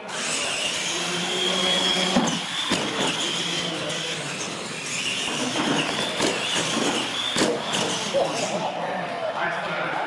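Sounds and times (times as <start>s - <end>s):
rc truck motors whining: 0.0s - 8.9s.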